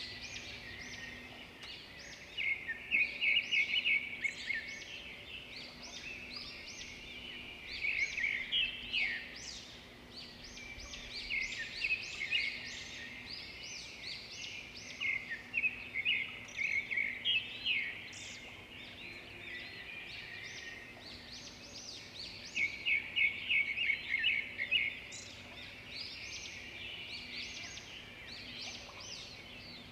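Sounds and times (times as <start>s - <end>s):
songbirds chorus: 0.0s - 29.9s.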